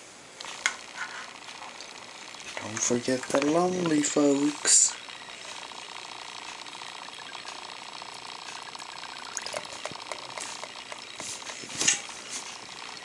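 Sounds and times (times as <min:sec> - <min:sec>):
aquarium water bubbling: 0:00.8 - 0:13.0.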